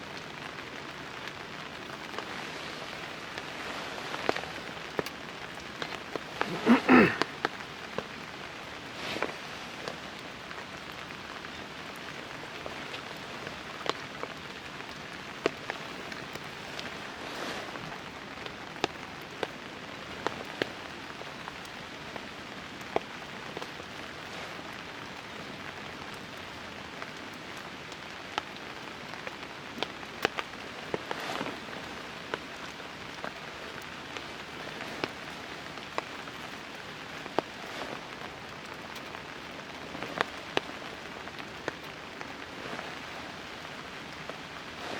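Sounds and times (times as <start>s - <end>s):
rain hissing on a tarp: 0.0s - 44.9s
sharp raindrops hitting close by: 0.0s - 44.9s.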